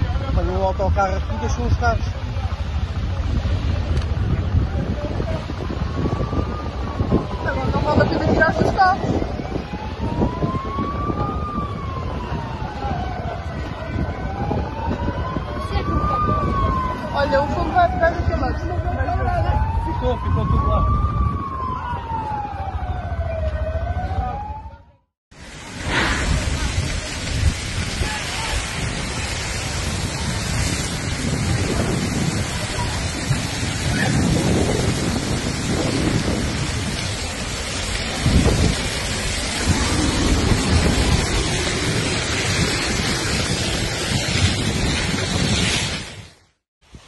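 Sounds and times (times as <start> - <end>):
fire rushing noise: 0.0 - 24.7, 25.3 - 47.0
wind rumble on microphone: 0.0 - 47.0
emergency siren wailing: 4.4 - 25.1, 28.2 - 45.2.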